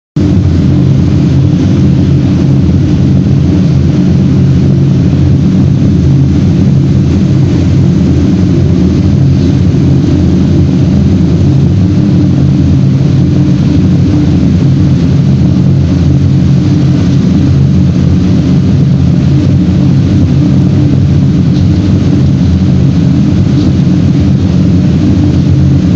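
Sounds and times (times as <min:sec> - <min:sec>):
constant hum: 0:00.2 - 0:25.9
furnace roaring: 0:00.2 - 0:25.9.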